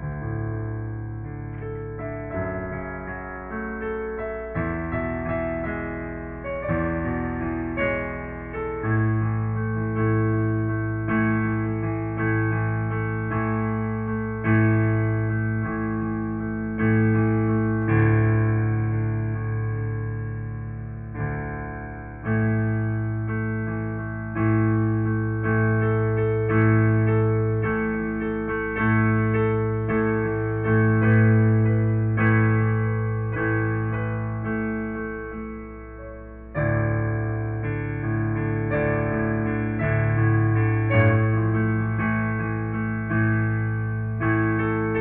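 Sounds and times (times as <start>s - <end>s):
piano playing slow chords: 0.0s - 45.0s.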